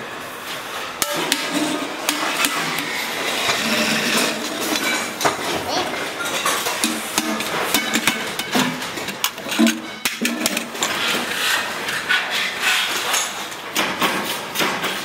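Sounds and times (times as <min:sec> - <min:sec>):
workshop hiss: 0:00.0 - 0:15.0.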